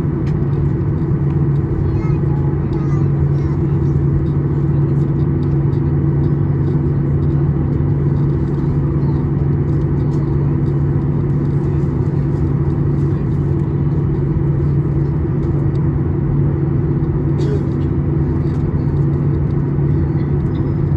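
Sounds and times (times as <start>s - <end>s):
airplane cabin engine drone: 0.0s - 20.9s.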